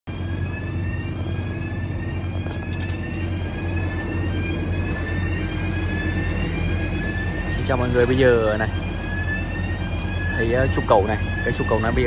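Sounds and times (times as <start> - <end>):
heavy machinery engine hum: 0.1 - 12.0
high engine whine: 0.1 - 12.0.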